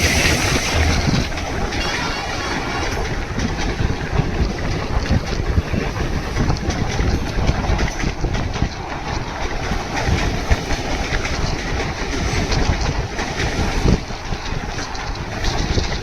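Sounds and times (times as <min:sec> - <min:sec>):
train running: 0:00.0 - 0:16.0
wind buffeting microphone: 0:00.0 - 0:16.0.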